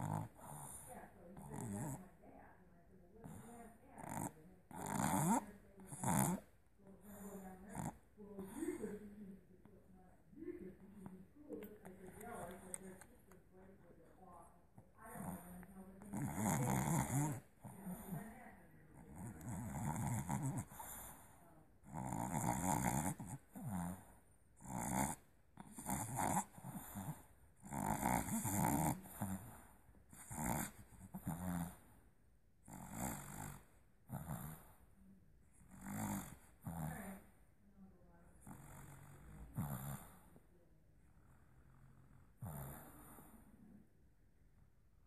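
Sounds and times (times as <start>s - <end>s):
puppy snoring: 0.0s - 9.8s, 10.7s - 37.5s, 38.3s - 44.0s.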